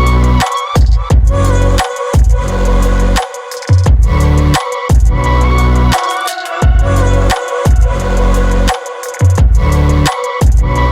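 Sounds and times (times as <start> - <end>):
electronic music with heavy bass: 0.0 - 10.9.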